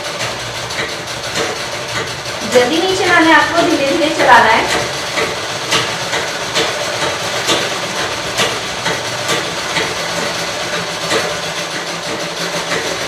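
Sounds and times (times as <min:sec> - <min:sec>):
treadle sewing machine stitching: 0:00.0 - 0:13.0.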